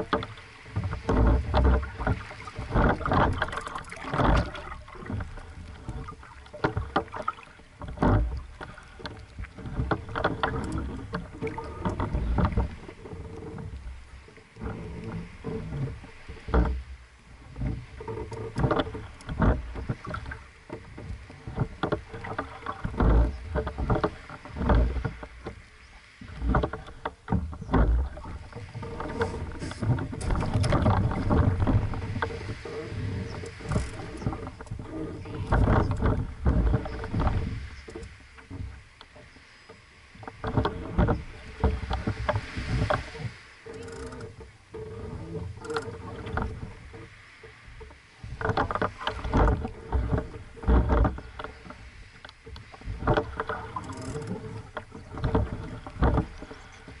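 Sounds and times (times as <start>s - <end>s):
water lapping against boat hull: 0.0s - 57.0s.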